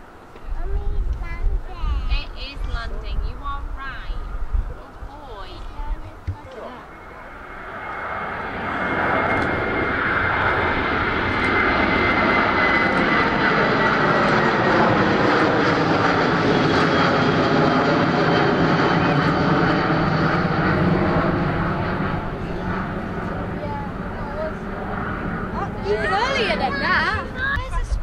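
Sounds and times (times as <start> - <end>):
jet engine roar overhead: 0.0 - 28.0.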